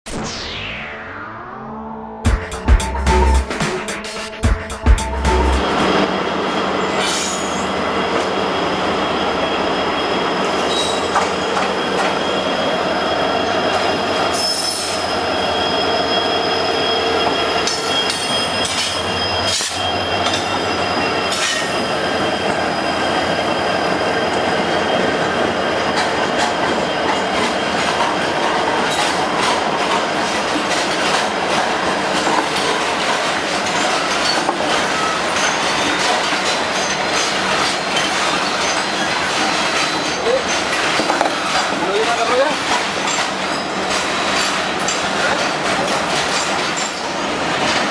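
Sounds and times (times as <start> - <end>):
train wheels rumbling and clicking: 2.7 - 47.9
metallic wheel squeal: 6.7 - 29.4, 30.7 - 47.4.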